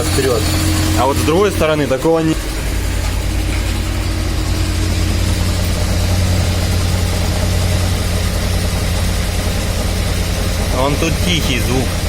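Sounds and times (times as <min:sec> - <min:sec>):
axle shafts humming: 0:00.0 - 0:12.0
car engine idling: 0:00.0 - 0:12.0.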